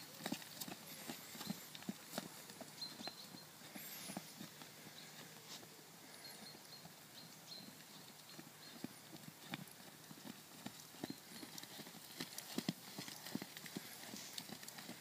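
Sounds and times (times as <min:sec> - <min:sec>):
horse hoofbeats on sand: 0:00.0 - 0:05.1, 0:07.5 - 0:15.0.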